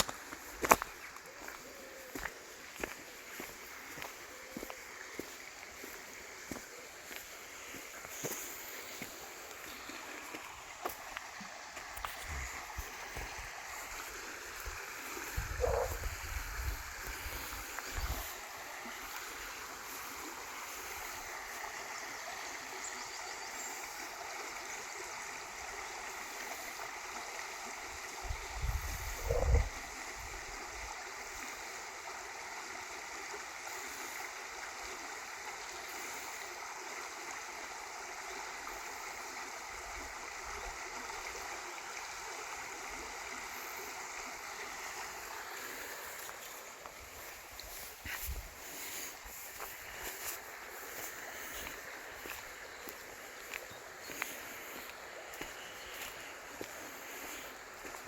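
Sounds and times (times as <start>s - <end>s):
river water rushing: 0.0s - 28.6s, 29.3s - 58.0s.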